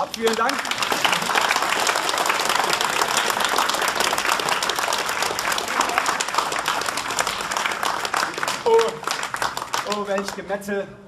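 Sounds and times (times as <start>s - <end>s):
crowd applauding: 0.0s - 10.5s.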